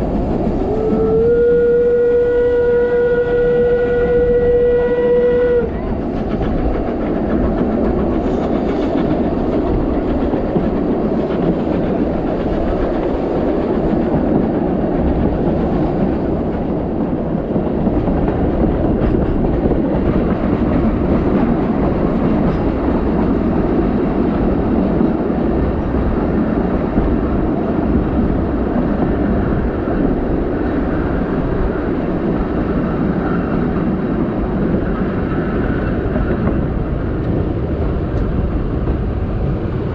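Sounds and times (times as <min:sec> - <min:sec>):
train wheels rolling on track: 0:00.0 - 0:39.9.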